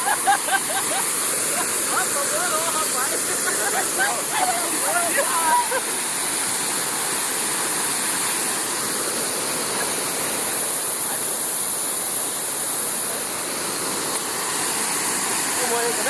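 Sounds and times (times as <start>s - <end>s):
waterfall pouring into a pool: 0.0s - 16.0s.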